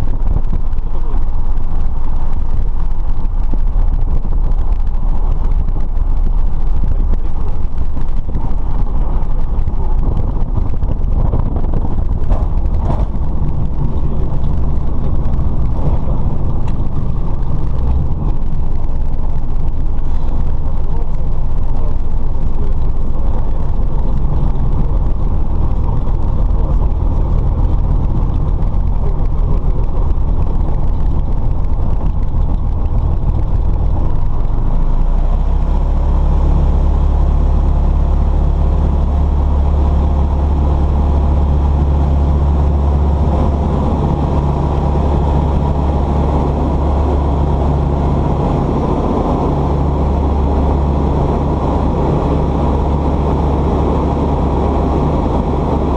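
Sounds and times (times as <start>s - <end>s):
aircraft engine drone in cabin: 0.0s - 55.9s.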